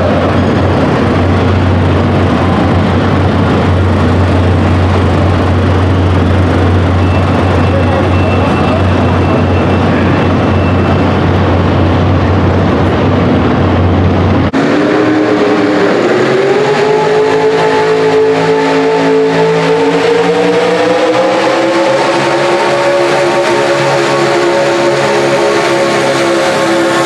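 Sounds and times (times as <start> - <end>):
loud low rumble: 0.0 - 27.0
truck engine revving high: 0.0 - 27.0.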